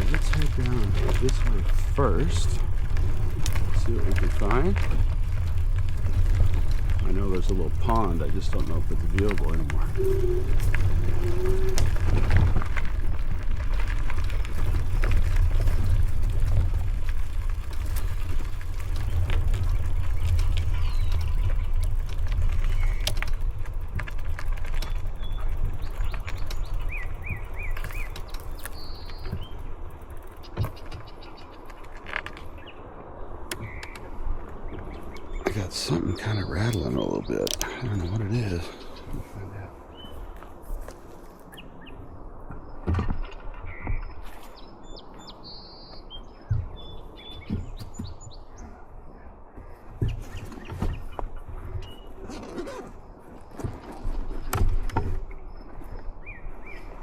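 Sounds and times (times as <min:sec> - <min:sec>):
small birds chirping: 0:00.0 - 0:57.0
trike rolling along trail: 0:00.0 - 0:57.0
wind rumble on microphone: 0:00.0 - 0:57.0.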